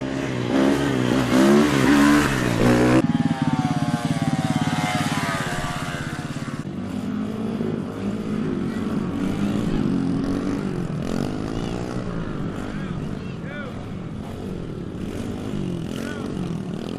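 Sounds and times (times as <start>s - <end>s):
small motorcycle engines revving: 0.0s - 16.9s.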